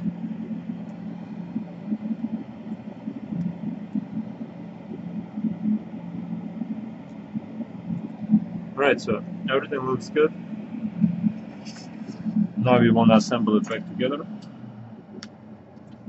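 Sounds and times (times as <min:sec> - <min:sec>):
low fluttering hum: 0:00.0 - 0:16.0.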